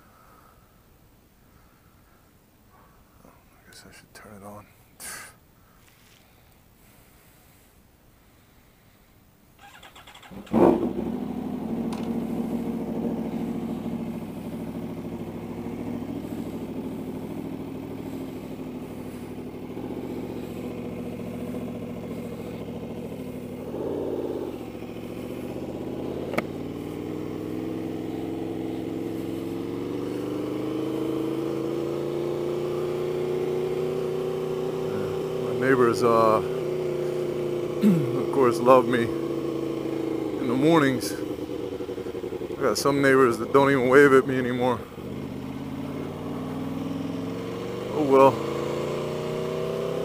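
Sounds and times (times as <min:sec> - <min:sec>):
motorcycle engine: 0:09.6 - 0:50.0.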